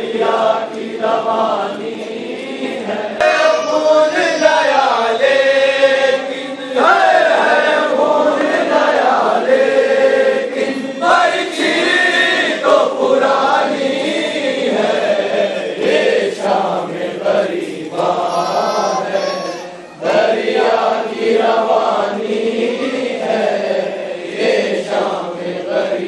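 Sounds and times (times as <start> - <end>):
men chanting in unison: 0.0 - 26.0.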